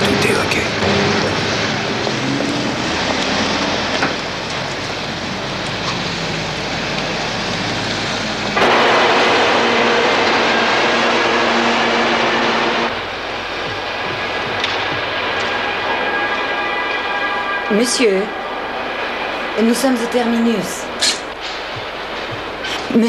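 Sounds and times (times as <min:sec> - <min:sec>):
rumble of trains and vehicles: 0:00.0 - 0:23.0
steady whine: 0:00.0 - 0:23.0.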